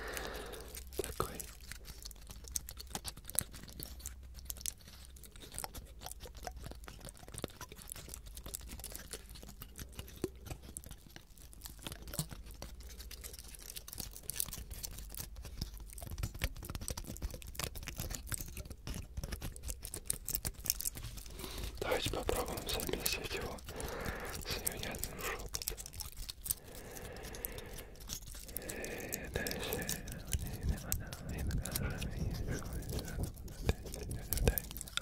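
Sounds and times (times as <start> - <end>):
fingers crackling pine cone scales: 0.0 - 35.0.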